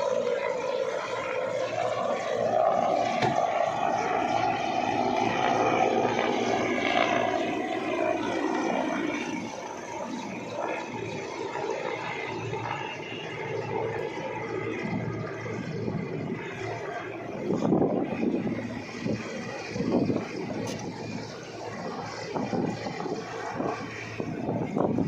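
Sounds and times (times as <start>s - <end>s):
aircraft flying past: 0.0s - 25.0s.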